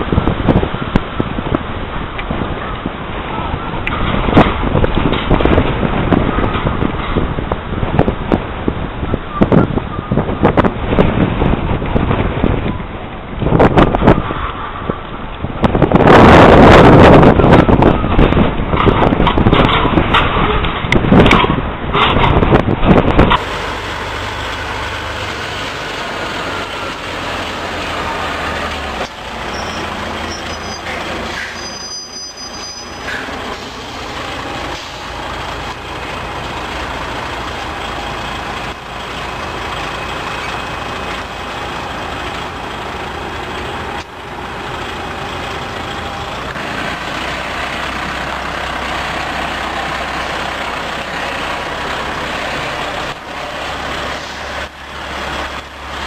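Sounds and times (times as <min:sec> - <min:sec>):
truck engine droning: 0:00.0 - 0:56.0.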